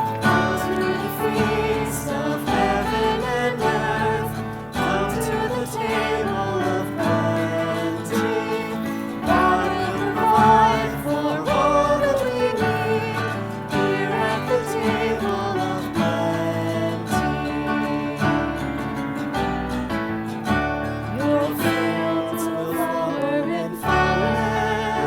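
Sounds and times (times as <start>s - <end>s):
person singing: 0.0s - 19.3s, 21.0s - 25.0s
acoustic guitar strumming: 0.0s - 25.0s.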